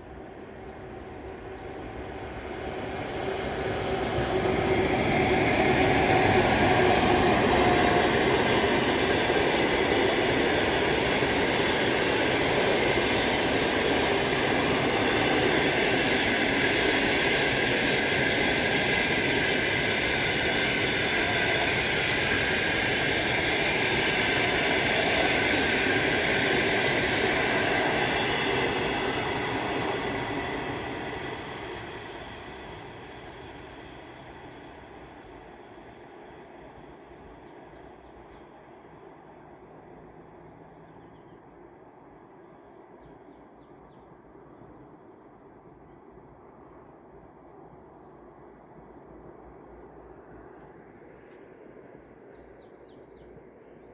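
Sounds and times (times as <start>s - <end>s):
train wheels rumbling on rail: 0.0s - 53.4s.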